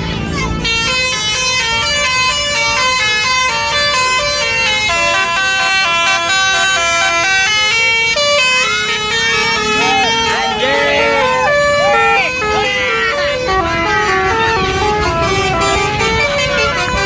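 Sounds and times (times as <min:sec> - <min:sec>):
bus melody horn: 0:00.0 - 0:17.0.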